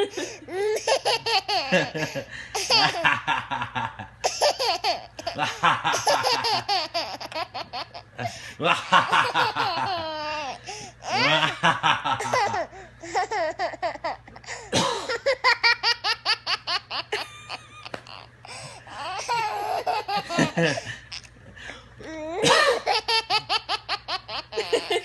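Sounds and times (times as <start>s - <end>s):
baby laughing: 0.0s - 3.4s, 4.2s - 8.1s, 8.9s - 21.3s, 22.0s - 25.0s.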